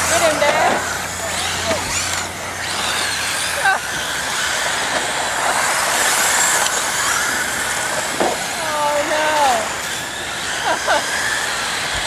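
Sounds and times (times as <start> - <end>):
toy trucks whirring motors: 0.0 - 12.0.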